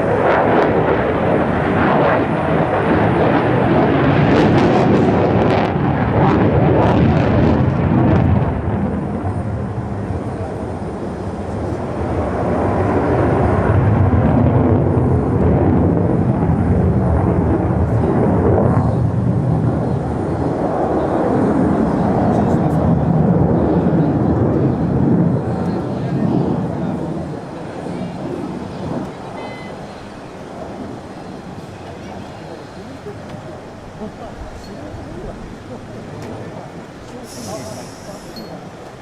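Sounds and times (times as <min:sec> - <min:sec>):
jet engine rumble: 0:00.0 - 0:39.0.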